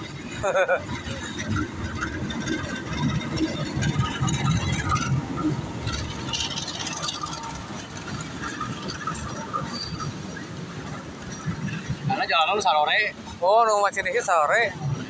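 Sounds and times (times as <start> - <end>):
diesel locomotive engine: 0.0 - 15.0
train coaches rumbling over rails: 0.0 - 15.0.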